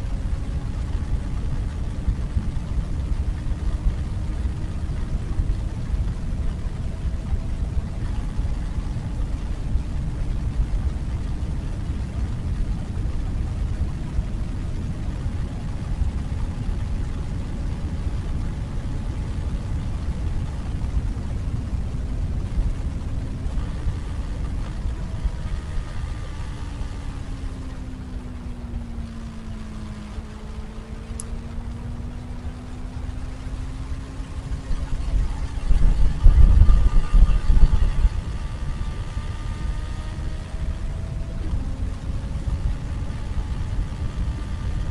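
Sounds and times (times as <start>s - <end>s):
faint motorcycle engine: 0.0s - 44.9s
wind buffeting microphone: 0.0s - 44.9s.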